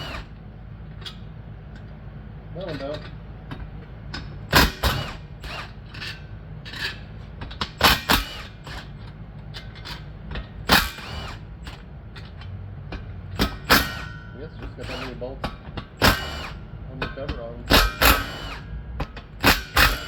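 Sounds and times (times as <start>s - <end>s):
steady low hum: 0.0s - 20.0s
hand tools clanking on metal: 2.6s - 20.0s.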